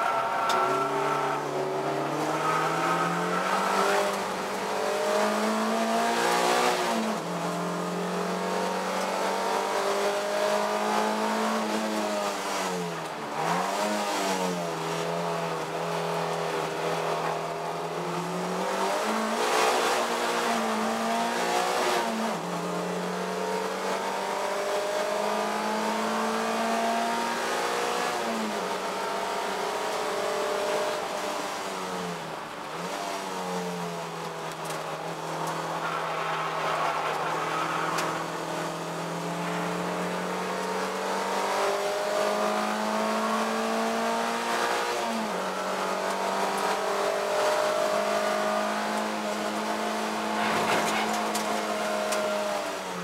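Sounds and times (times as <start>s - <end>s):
engine blips on downshifts: 0.0s - 53.0s
wind and road noise: 0.0s - 53.0s.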